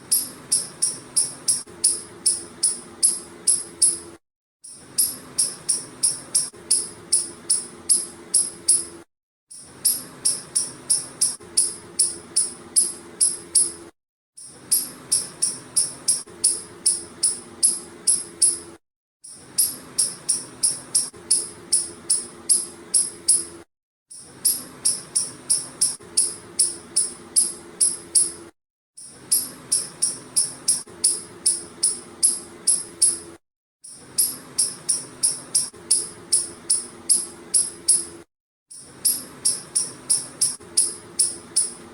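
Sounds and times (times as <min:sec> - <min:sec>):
squirrel chirping: 0:00.1 - 0:04.0, 0:05.0 - 0:08.9, 0:09.8 - 0:13.8, 0:14.7 - 0:18.6, 0:19.6 - 0:23.4, 0:24.4 - 0:28.3, 0:29.3 - 0:33.2, 0:34.2 - 0:38.1, 0:39.0 - 0:41.8.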